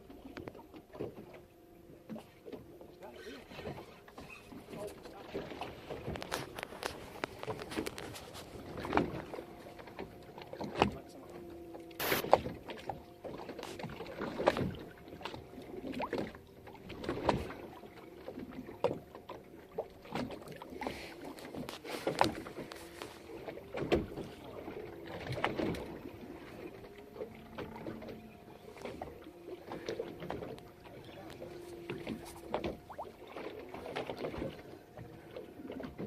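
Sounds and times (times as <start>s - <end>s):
water splashing: 2.1s - 36.0s.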